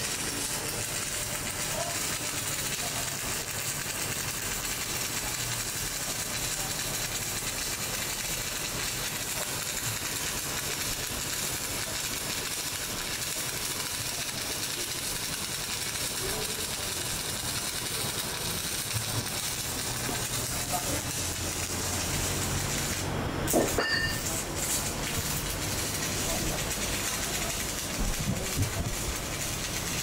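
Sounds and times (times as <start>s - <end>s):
electric welding arc hissing: 0.0s - 30.0s.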